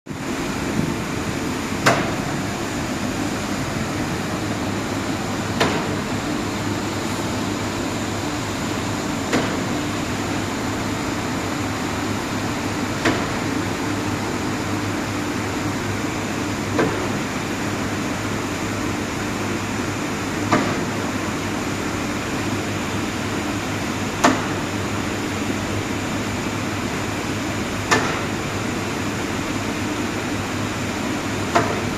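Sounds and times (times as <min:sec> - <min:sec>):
boiler humming: 0:00.1 - 0:31.9.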